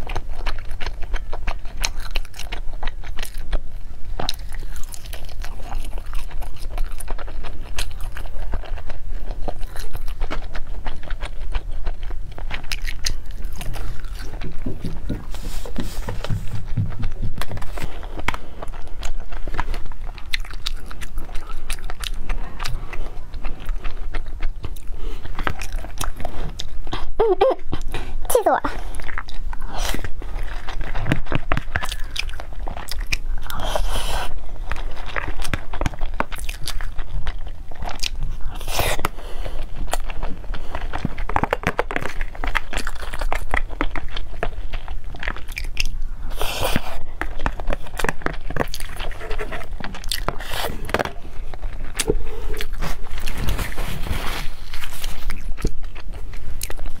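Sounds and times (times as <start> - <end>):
chewing with wet mouth sounds: 0.0 - 57.0.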